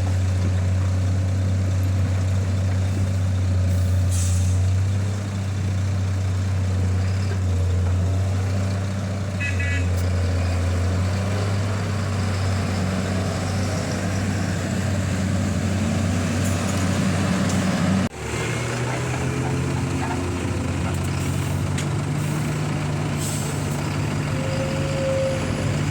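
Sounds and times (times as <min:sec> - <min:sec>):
diesel engine drone: 0:00.0 - 0:25.9.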